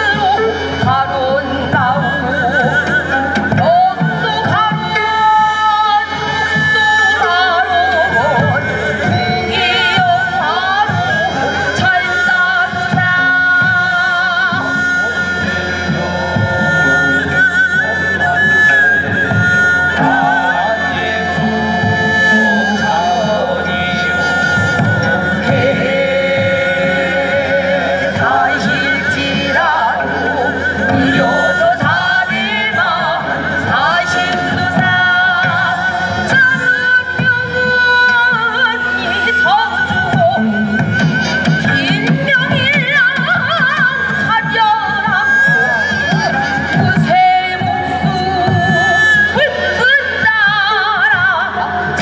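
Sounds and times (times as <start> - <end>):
low accompaniment: 0.0 - 43.1
wavering vibrato melody: 0.0 - 51.8.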